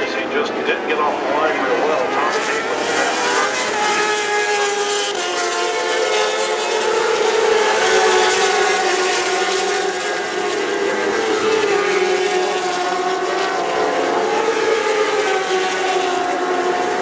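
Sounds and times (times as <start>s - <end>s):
motorbike engines at high revs: 1.2s - 17.0s.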